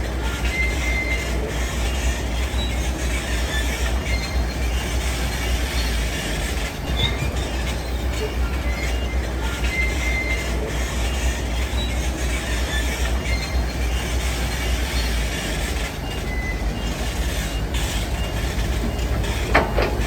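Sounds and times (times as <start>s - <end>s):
diesel construction machinery rumbling: 0.0s - 20.0s
short high squeaks: 2.6s - 20.0s.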